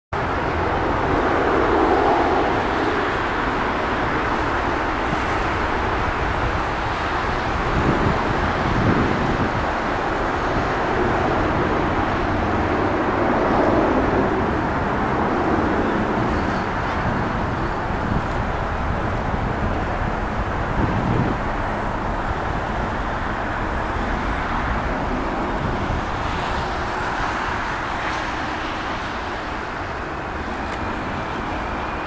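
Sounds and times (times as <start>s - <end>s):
jet engines rumbling: 0.2s - 32.0s.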